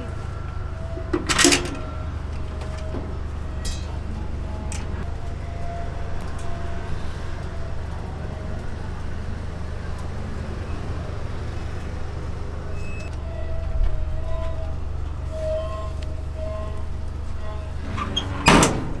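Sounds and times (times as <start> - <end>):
low mechanical hum: 0.0 - 19.0
outdoor street noise: 0.0 - 19.0.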